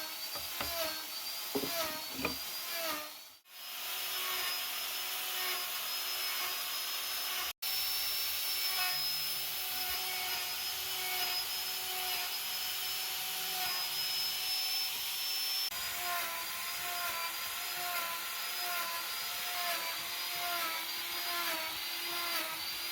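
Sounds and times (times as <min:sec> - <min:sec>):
power tool cutting wood: 0:00.0 - 0:22.9.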